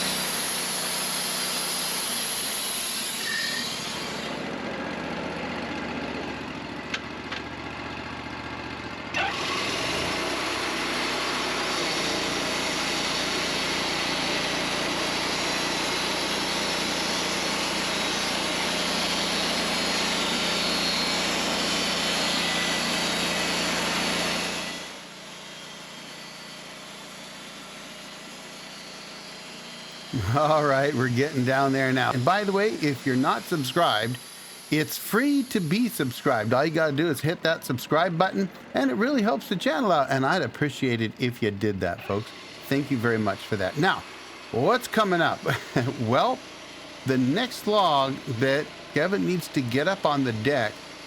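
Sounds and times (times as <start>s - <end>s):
band sawmill running: 0.0s - 51.0s.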